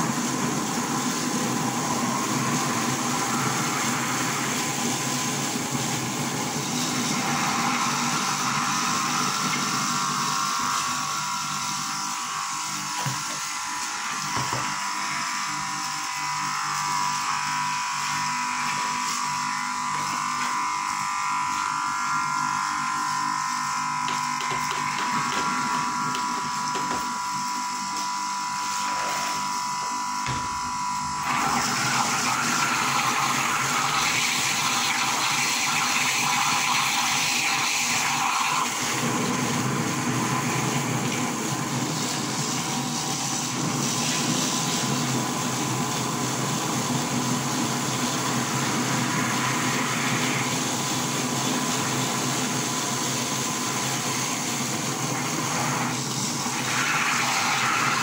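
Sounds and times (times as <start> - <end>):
grinding machine motor whine: 0.0 - 58.0
wet slurry going through mill: 0.0 - 58.0.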